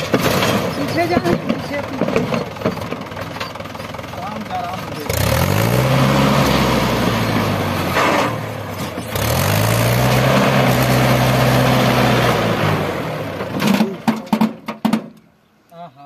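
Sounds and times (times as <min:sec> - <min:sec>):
diesel engine revving: 0:00.0 - 0:14.3.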